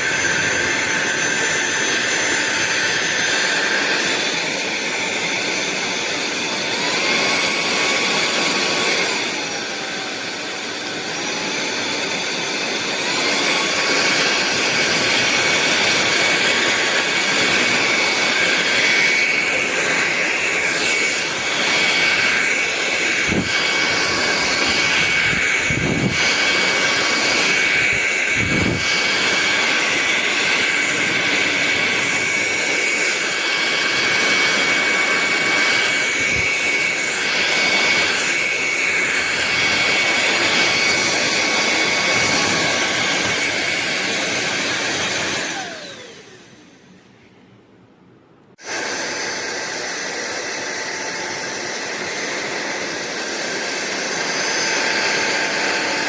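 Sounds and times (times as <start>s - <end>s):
stick vacuum whining: 0.0s - 47.4s, 48.4s - 56.0s.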